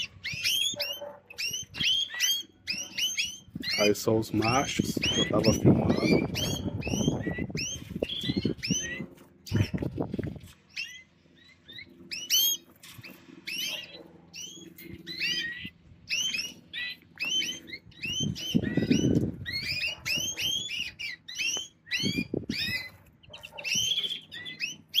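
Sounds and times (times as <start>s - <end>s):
canaries chirping: 0.0s - 25.0s.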